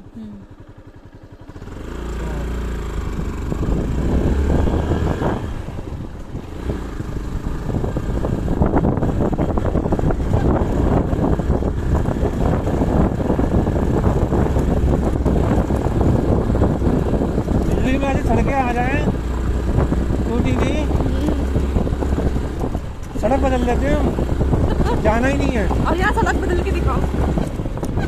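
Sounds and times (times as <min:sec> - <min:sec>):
motorcycle rattling over gravel: 0:00.5 - 0:28.0
wind buffeting microphone: 0:00.7 - 0:28.0.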